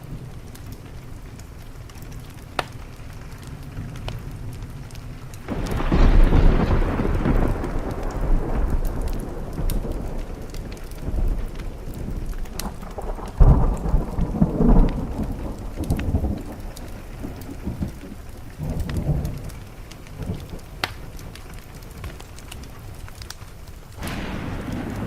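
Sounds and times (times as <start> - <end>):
sharp ticks and crackles: 0.0 - 25.0
steady rain: 0.0 - 25.0
thunder rumbling: 0.0 - 25.0.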